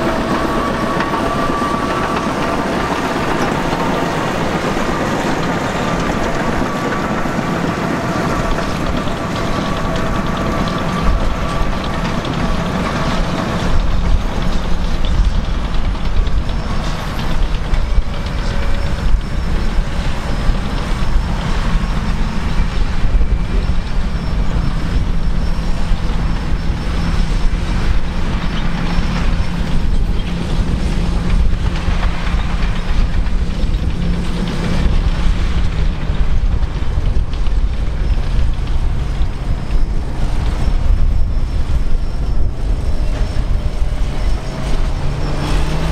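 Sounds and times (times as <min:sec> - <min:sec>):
clatter of steel tracks: 0:00.0 - 0:45.9
heavy diesel engines under load: 0:00.0 - 0:45.9.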